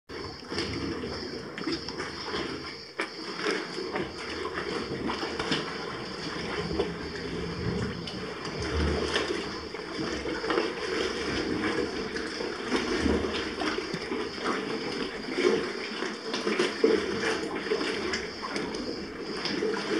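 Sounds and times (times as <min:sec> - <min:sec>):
sea water sloshing and lapping: 0:00.1 - 0:19.9
water splashes and gurgles: 0:00.1 - 0:19.9.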